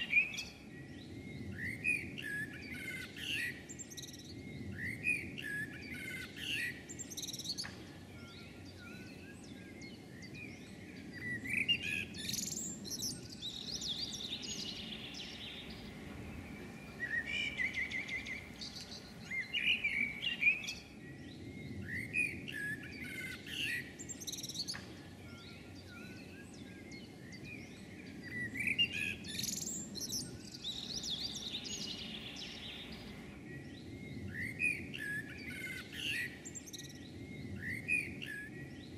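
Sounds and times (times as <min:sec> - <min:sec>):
songbirds chirping and warbling: 0:00.0 - 0:38.9.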